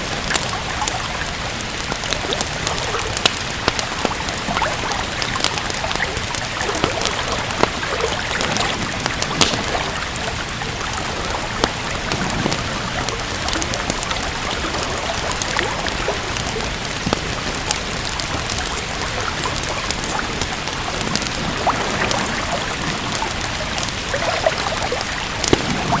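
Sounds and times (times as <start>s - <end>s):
steady rain falling: 0.0s - 26.0s
wood fire crackling: 0.0s - 26.0s.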